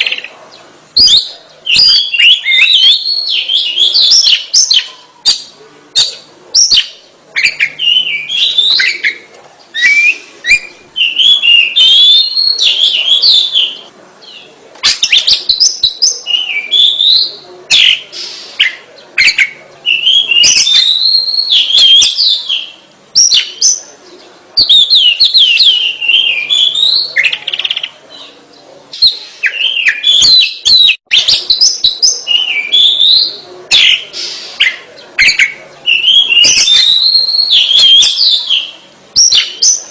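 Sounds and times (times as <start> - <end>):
bird singing whistled phrases: 1.0 - 13.8, 14.8 - 23.8, 24.6 - 27.9, 29.0 - 39.9.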